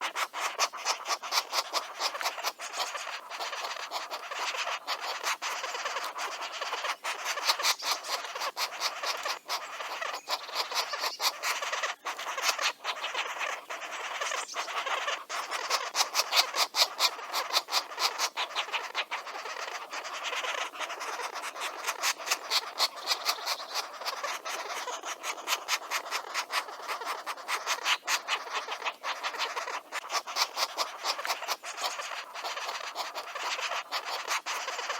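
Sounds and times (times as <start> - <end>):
woodpecker nestlings begging: 0.0 - 34.9.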